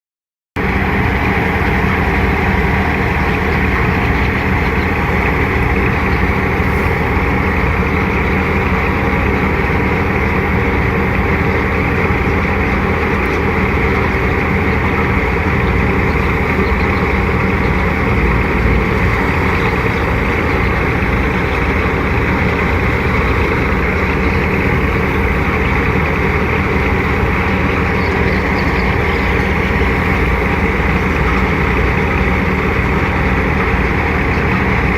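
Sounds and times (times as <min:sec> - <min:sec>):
tractor engine driving thresher: 0:00.6 - 0:34.9.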